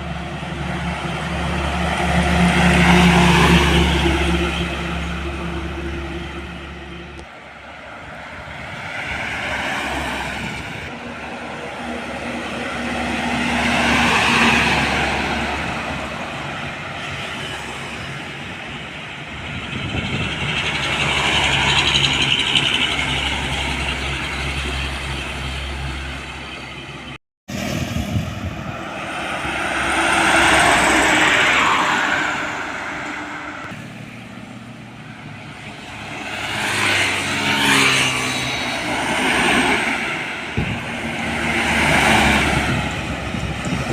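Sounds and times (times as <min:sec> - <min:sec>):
heavy road vehicles passing: 0:00.0 - 0:43.9.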